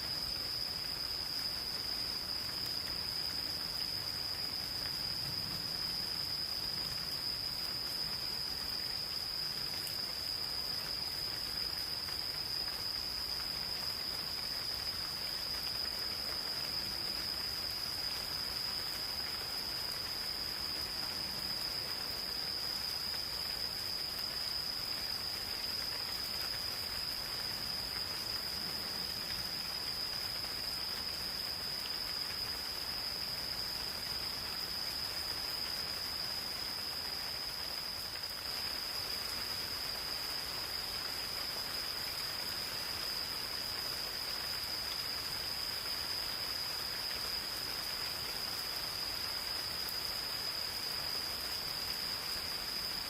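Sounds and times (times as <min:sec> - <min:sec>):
gentle rain falling: 0:00.0 - 0:53.0
insects trilling: 0:00.0 - 0:53.0.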